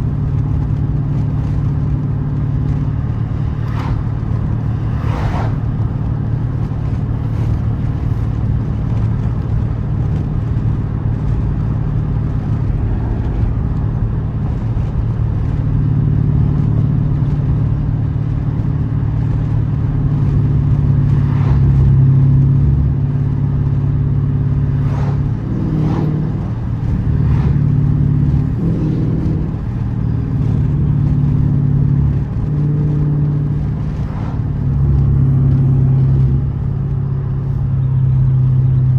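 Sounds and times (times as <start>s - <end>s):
car engine exhaust note: 0.0s - 38.9s.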